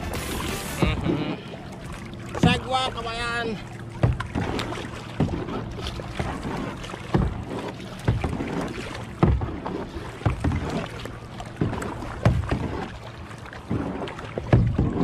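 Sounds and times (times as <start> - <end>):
constant wash of water: 0.0 - 15.0
paddle splashing in water: 0.0 - 15.0.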